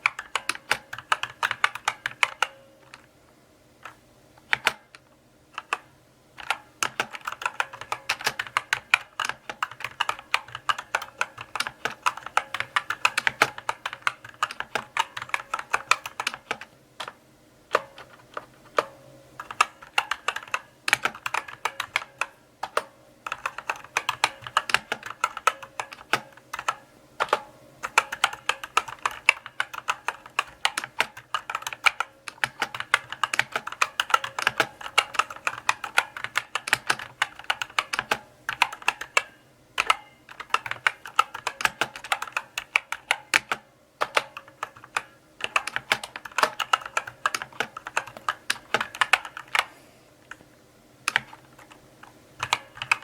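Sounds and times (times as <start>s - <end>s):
mechanical keyboard typing: 0.0s - 3.1s, 3.8s - 5.0s, 5.6s - 53.0s.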